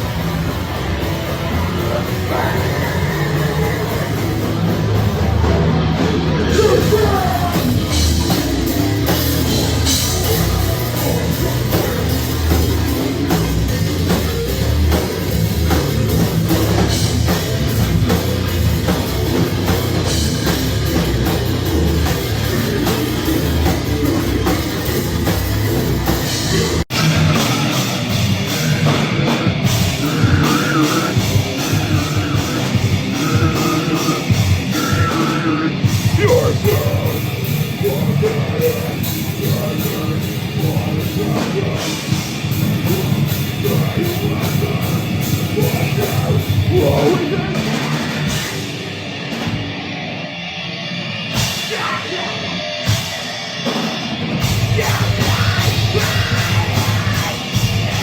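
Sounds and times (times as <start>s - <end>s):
heavy rock music with singing: 0.0s - 58.0s.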